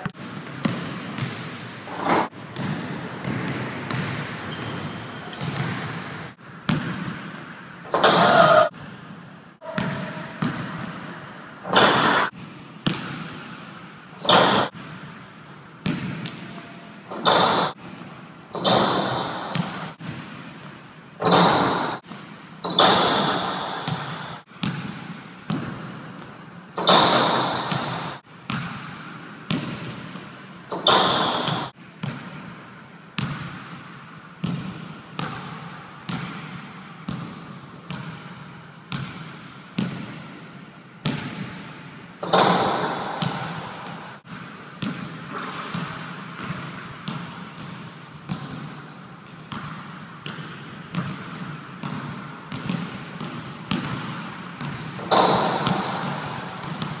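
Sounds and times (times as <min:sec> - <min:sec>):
basketball bouncing on gym floor: 0:00.0 - 0:15.2, 0:15.8 - 0:32.6, 0:33.2 - 0:40.4, 0:41.0 - 0:57.0.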